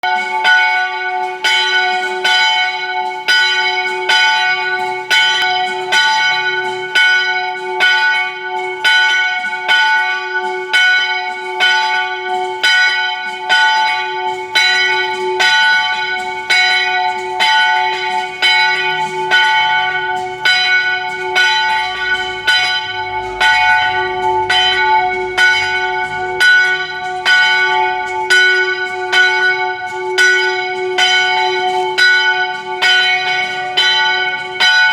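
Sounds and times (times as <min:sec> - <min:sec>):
church bell ringing: 0:00.0 - 0:34.9.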